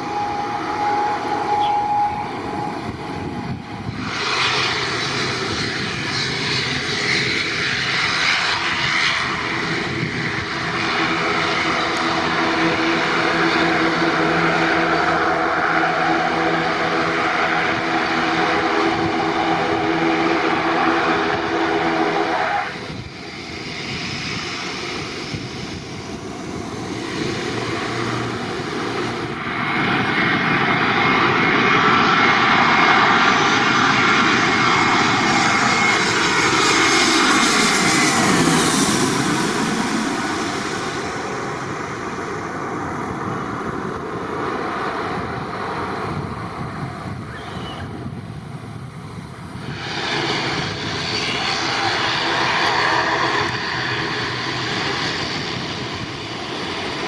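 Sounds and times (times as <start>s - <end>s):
jet airliner passing overhead: 0.0s - 57.0s
turboprop airliner engines: 0.0s - 57.0s.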